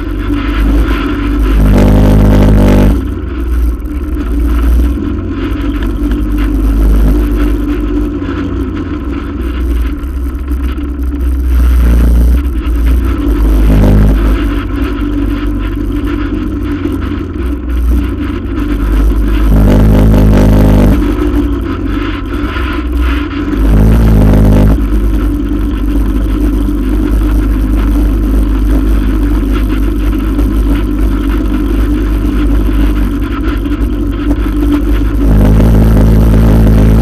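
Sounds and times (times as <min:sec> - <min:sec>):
atv engine revving: 0:00.0 - 0:37.0.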